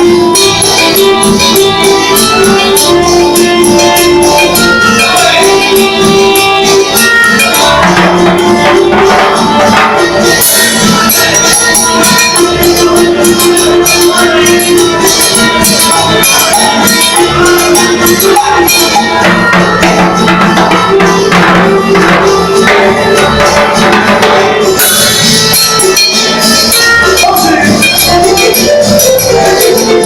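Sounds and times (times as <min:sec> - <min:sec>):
electronic keyboard melody: 0:00.0 - 0:30.0
quick percussion beat: 0:00.0 - 0:30.0.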